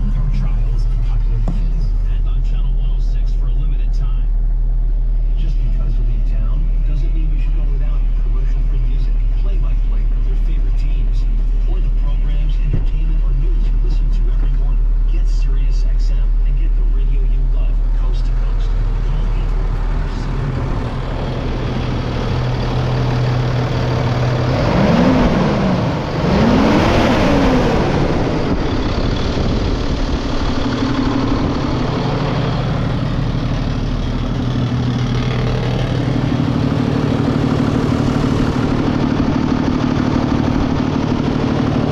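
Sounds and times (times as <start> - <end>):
diesel engine idling: 0.0 - 41.9
diesel engine revving: 0.0 - 41.9.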